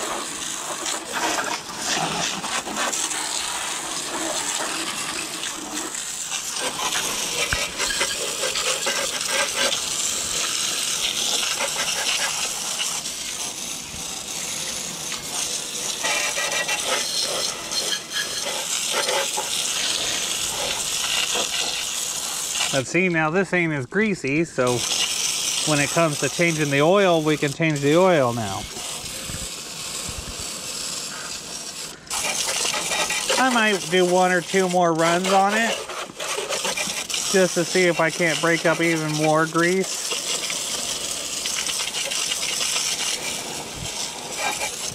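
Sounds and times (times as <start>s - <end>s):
hose water spattering on engine: 0.0s - 44.9s.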